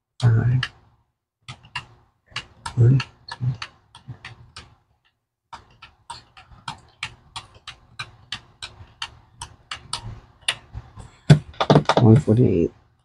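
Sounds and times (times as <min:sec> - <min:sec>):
calculator keys tapping: 0:01.5 - 0:12.5.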